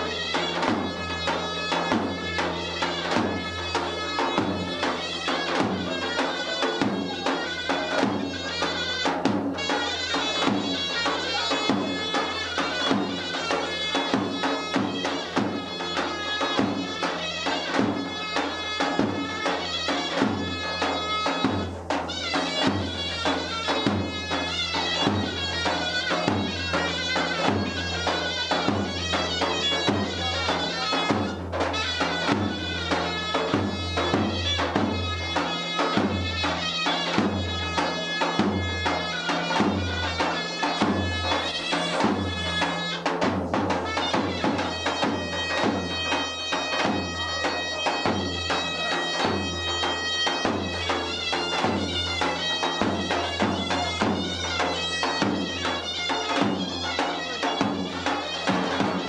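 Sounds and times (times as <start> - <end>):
reedy bagpipe-like wind instrument: 0.0 - 59.0.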